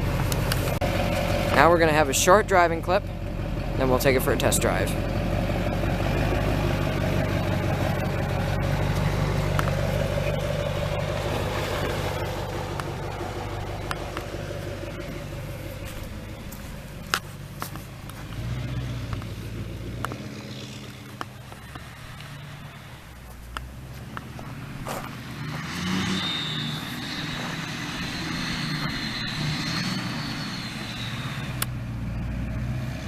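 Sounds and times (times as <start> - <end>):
diesel truck engine humming: 0.0 - 33.0.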